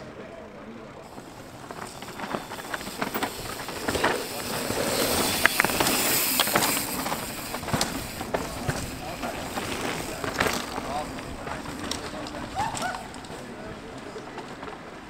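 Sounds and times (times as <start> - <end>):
bike tyres rushing on dirt: 0.0 - 15.0
bike clicks and rattles: 1.0 - 15.0.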